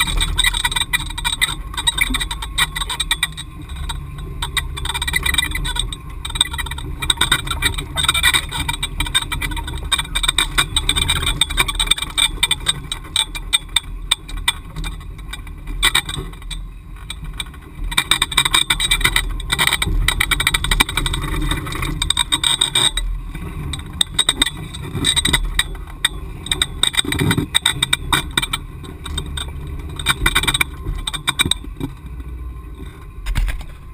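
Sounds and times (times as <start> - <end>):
knocks and rattles over rocks: 0.0 - 33.9
truck engine running: 0.0 - 33.9.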